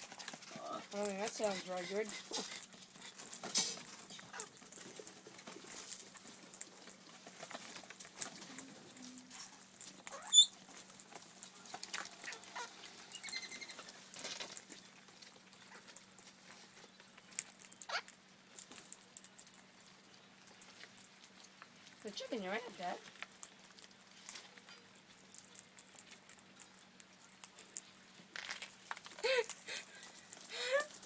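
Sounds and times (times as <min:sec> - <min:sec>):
parrots cracking seeds: 0:00.0 - 0:31.0.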